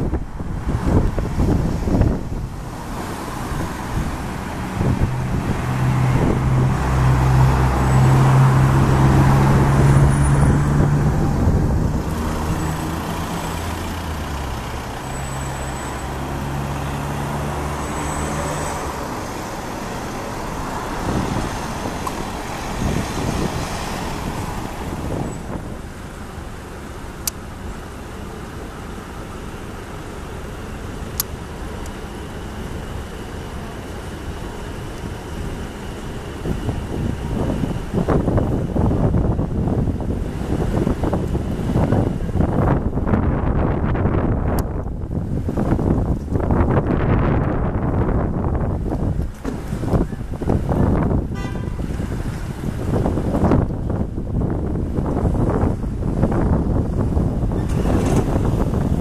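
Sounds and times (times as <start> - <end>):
cars passing: 0.0 - 59.0
heavy vehicle engine hum: 0.0 - 59.0.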